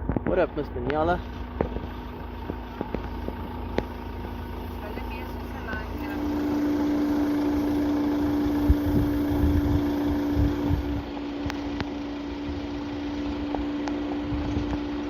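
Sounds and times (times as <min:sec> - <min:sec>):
low rumble and thumps: 0:00.0 - 0:15.0
vehicle engine running: 0:00.0 - 0:15.0.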